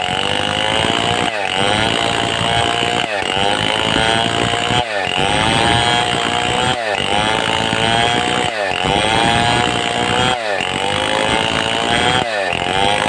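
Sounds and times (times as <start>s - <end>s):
chainsaw sawing a log: 0.0s - 13.0s.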